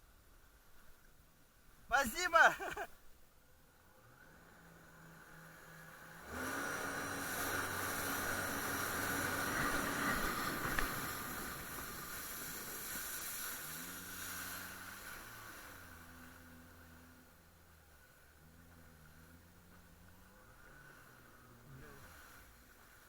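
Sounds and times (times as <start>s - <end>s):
jet ski engine: 0.1s - 23.0s.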